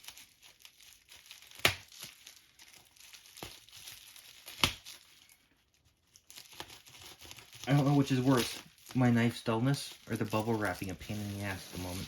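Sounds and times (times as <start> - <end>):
bubble wrap crinkling: 0.0 - 12.0
bubble wrap snaps: 0.0 - 12.0.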